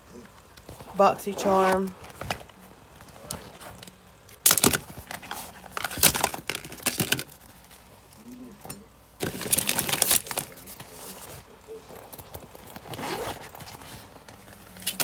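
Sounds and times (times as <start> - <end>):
small items rustling in plastic drawer: 0.1 - 15.0.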